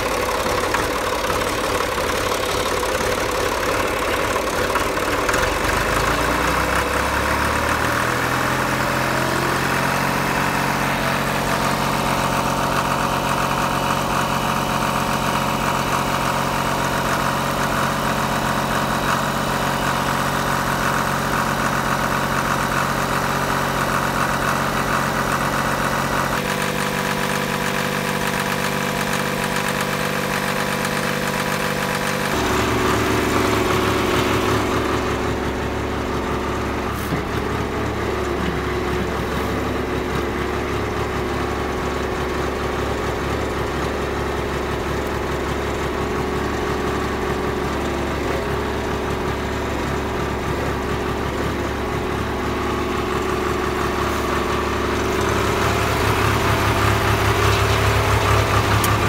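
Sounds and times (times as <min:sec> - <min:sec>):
backhoe engine revving: 0:00.0 - 0:59.0.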